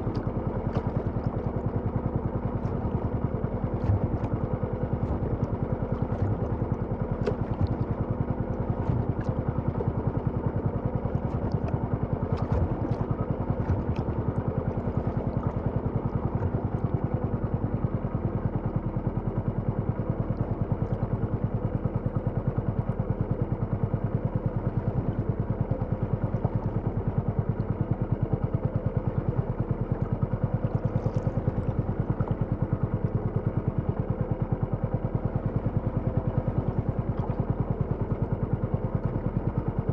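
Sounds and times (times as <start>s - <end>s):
small boat engine putter: 0.0s - 39.9s.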